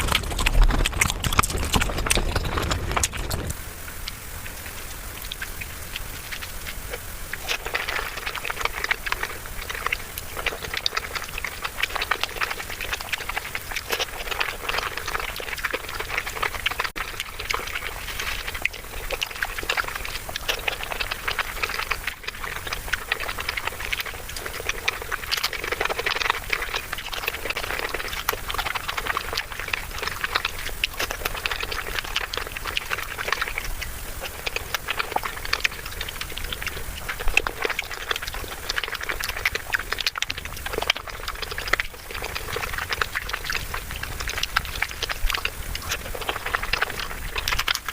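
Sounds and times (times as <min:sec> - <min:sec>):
wet chewing and lip smacking: 0:00.0 - 0:47.9.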